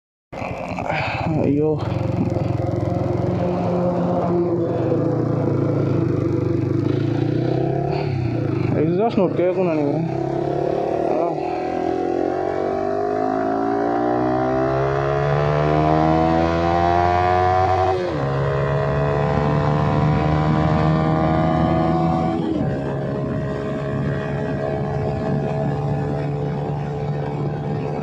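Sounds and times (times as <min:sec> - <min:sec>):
motorcycle engine accelerating: 0:00.4 - 0:28.0.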